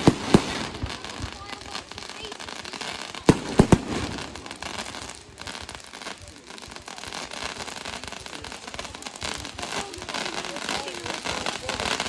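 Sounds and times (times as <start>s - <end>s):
firework crackle: 0.0s - 12.0s.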